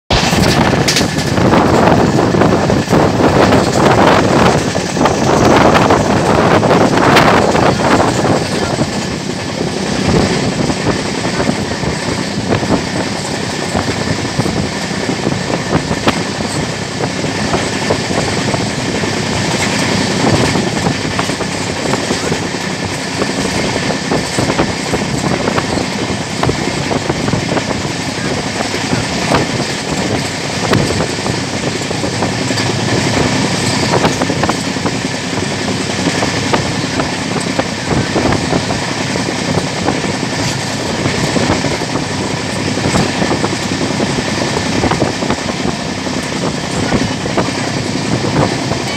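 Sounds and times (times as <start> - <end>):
train wheels rumbling on rail: 0.0 - 48.9
wind rushing: 0.1 - 48.9.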